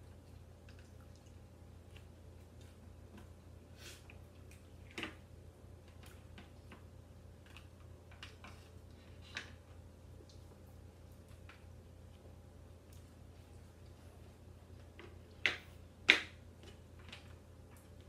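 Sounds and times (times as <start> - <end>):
chewing and eating sounds: 0.0 - 5.2, 5.8 - 18.0.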